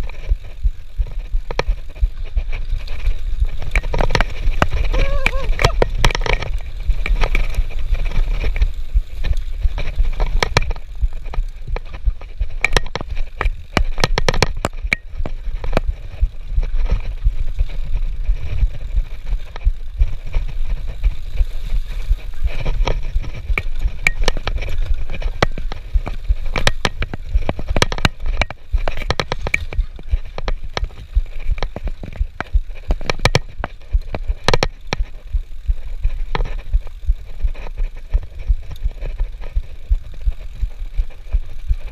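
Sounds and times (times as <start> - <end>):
bike clicks and rattles: 0.0 - 41.9
wind rumble on microphone: 0.0 - 41.9.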